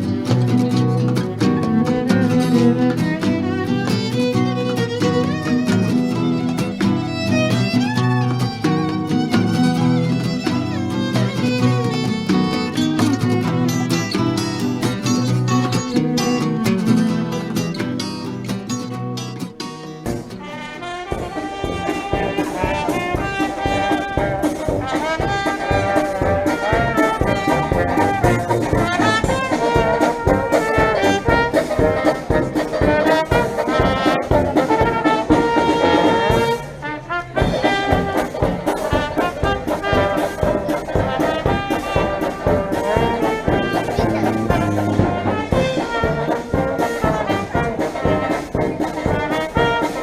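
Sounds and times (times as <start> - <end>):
brass instrumental music with beat: 0.0 - 50.0.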